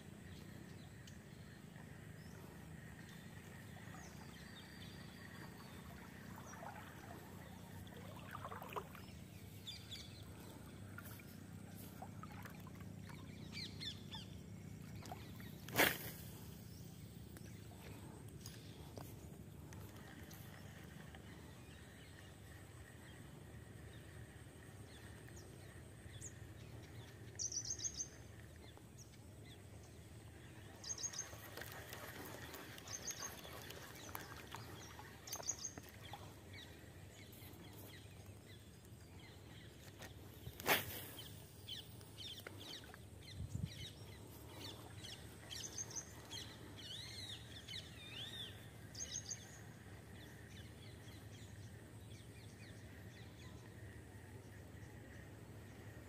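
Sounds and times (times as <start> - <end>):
birds chirping: 0.0 - 54.0
faint outdoor hiss: 0.0 - 56.0.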